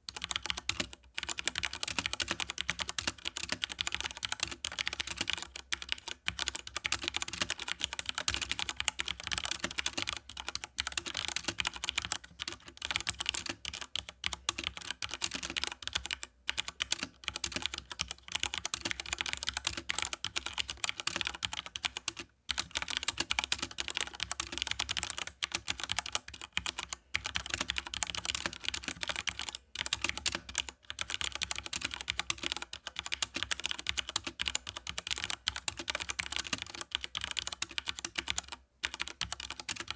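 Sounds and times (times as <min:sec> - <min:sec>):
fast typing on mechanical keyboard: 0:00.1 - 0:39.9.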